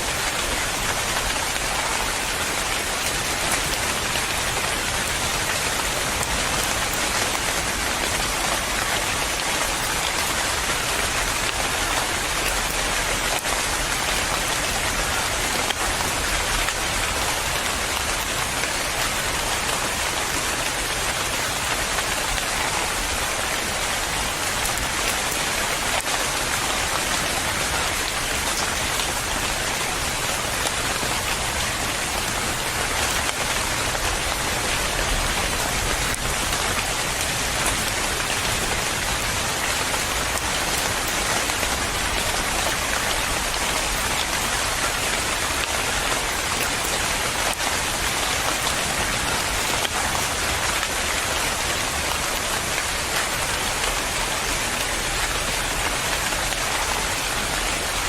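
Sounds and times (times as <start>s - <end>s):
rain pattering on a surface: 0.0s - 58.0s.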